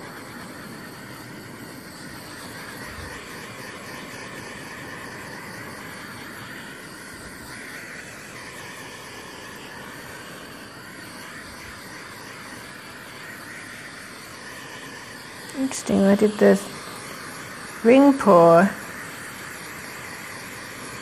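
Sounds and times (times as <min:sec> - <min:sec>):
blow torch flame hissing: 0:00.0 - 0:21.0.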